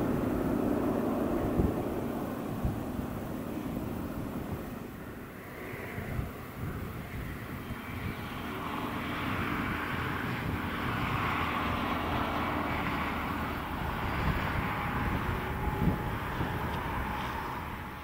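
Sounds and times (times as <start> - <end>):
diesel locomotive engine drone: 0.0 - 18.0.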